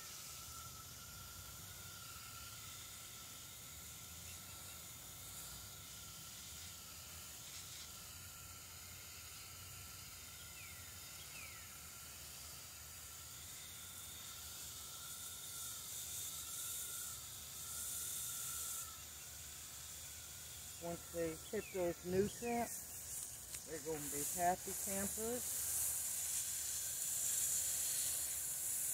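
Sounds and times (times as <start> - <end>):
hose spray on soil and leaves: 0.0 - 28.9.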